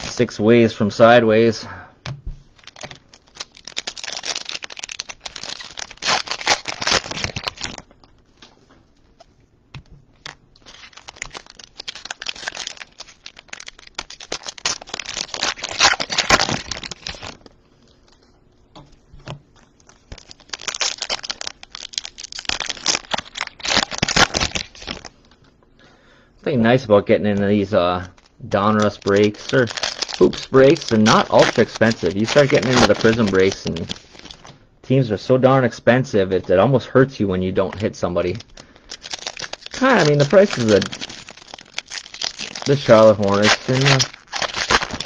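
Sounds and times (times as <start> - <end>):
plastic wrappers crinkling and tearing: 0.0 - 0.4, 2.5 - 18.4, 19.2 - 25.4, 27.2 - 34.6, 37.6 - 45.0.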